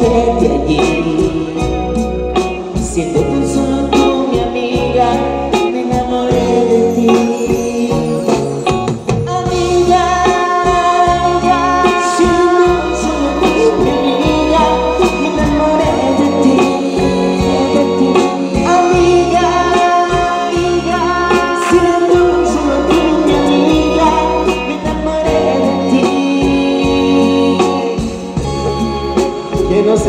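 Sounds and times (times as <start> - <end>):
live band music: 0.0 - 30.0
man singing: 0.0 - 30.0.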